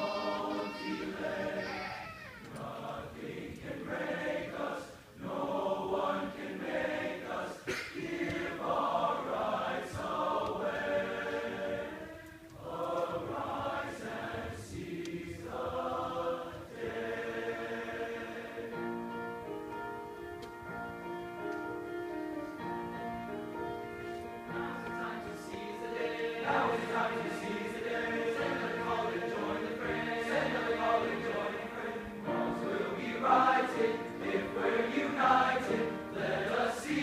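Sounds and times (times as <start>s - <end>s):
men's choir singing in harmony: 0.0s - 19.3s, 24.2s - 37.0s.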